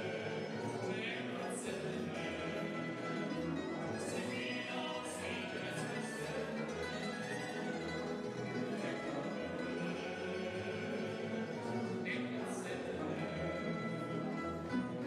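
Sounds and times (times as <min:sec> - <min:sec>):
man singing: 0:00.0 - 0:07.7, 0:08.6 - 0:14.4
plucked string ensemble: 0:00.0 - 0:15.0.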